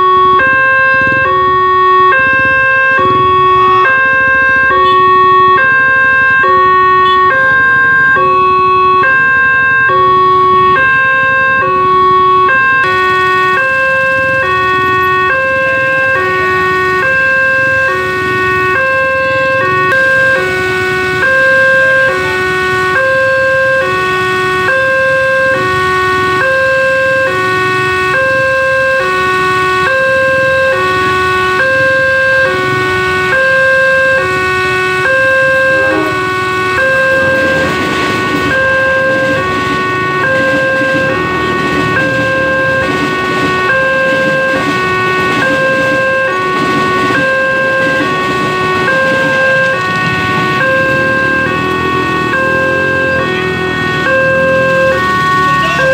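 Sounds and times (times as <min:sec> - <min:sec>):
two-tone level crossing alarm: 0:00.0 - 0:55.9.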